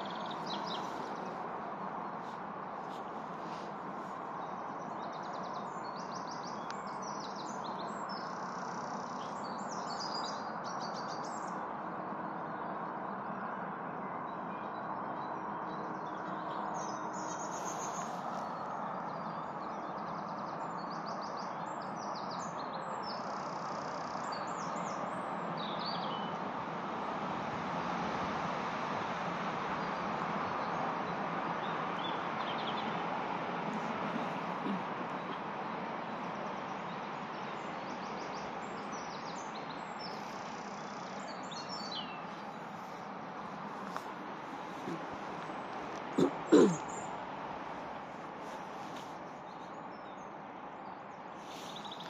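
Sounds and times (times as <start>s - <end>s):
songbirds singing: 0.0s - 26.6s, 29.7s - 52.0s
steady background noise: 0.0s - 52.0s.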